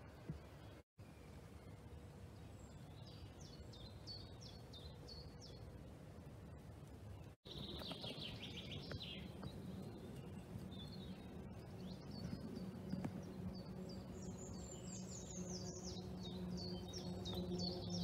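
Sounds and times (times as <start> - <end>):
faint low rumble: 0.0 - 18.0
small birds singing: 0.0 - 18.0.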